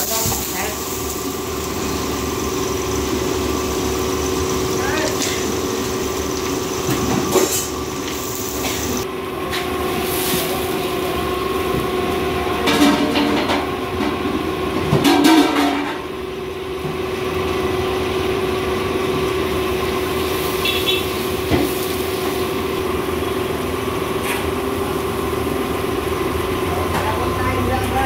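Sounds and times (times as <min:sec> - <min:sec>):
oil sizzling: 0:00.0 - 0:27.4
gas burner rushing: 0:00.0 - 0:28.0.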